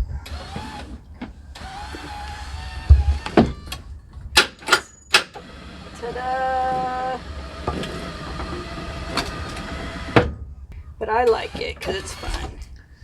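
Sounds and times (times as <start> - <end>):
power seat motor whirring: 0.0 - 10.3, 11.3 - 12.7.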